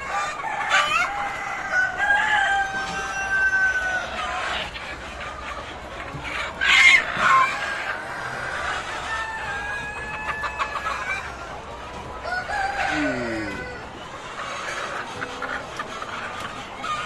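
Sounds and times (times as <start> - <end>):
loud harsh chicken call: 0.0 - 5.0, 5.7 - 17.0
chickens clucking and calling: 0.0 - 17.0.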